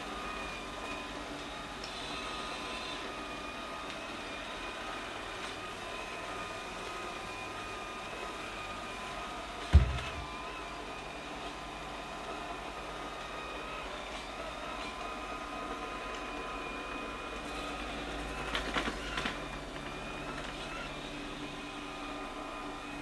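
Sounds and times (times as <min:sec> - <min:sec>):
robot vacuum motor hum: 0:00.0 - 0:23.0.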